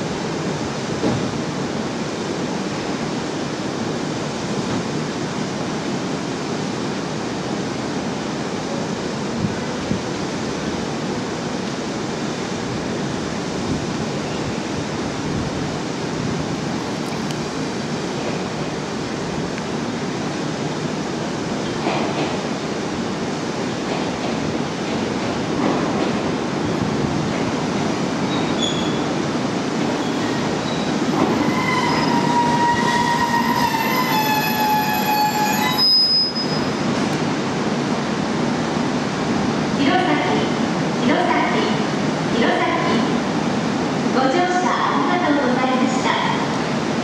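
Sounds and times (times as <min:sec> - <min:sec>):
distant train rushing noise: 0:00.0 - 0:47.0
soft rail sounds: 0:00.0 - 0:47.0.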